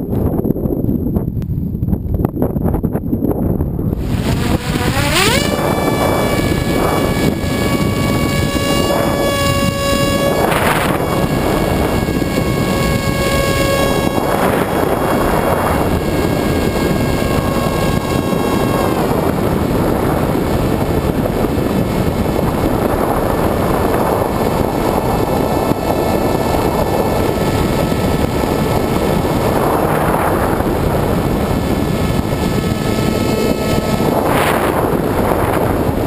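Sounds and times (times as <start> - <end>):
wind rushing over camera: 0.0 - 36.0
electric motor whine: 3.8 - 36.0.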